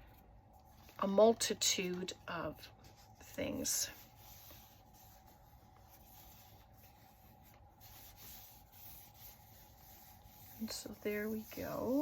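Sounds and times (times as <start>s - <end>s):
paper rubbing and rustling: 0.5s - 12.0s.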